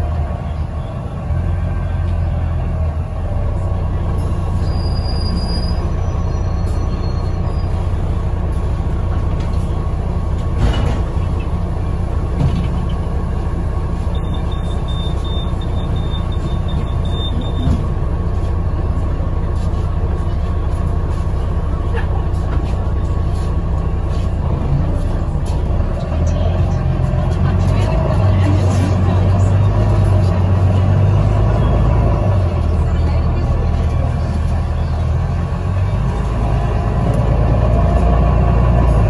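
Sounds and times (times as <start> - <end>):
bus engine and road rumble: 0.0 - 39.0.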